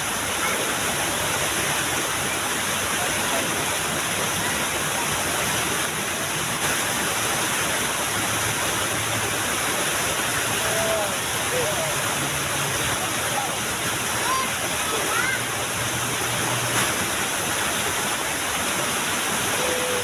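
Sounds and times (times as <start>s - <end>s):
small waterfall rushing: 0.0s - 20.0s.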